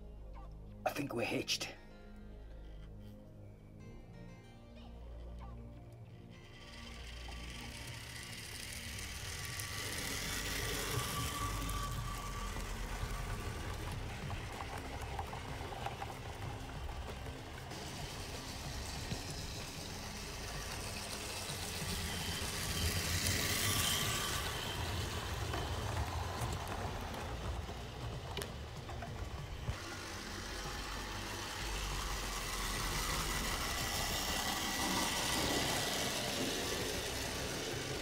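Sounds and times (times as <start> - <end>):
model train mechanical hum: 5.0 - 38.0.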